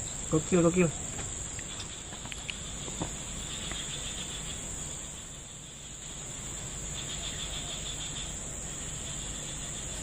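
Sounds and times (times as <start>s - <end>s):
high-pitched insect drone: 0.0s - 10.0s
pulsing insect trill: 0.0s - 10.0s.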